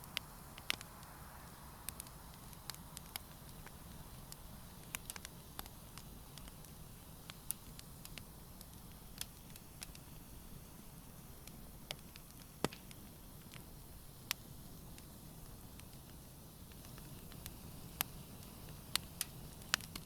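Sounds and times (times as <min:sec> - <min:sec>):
campfire pops and snaps: 0:00.0 - 0:20.0
fire burning hiss: 0:00.0 - 0:20.0.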